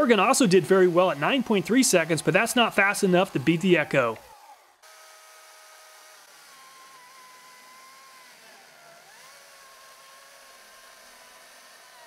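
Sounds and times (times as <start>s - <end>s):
battery chainsaw whining: 0.0s - 12.0s
chainsaw cutting wood: 0.0s - 12.0s.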